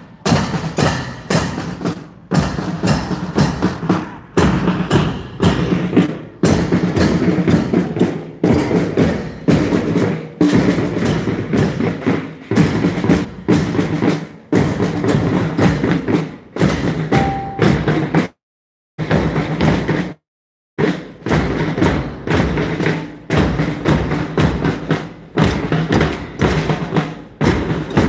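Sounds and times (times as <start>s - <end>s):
marching drums playing: 0.0s - 18.4s, 19.0s - 20.2s, 20.8s - 28.0s.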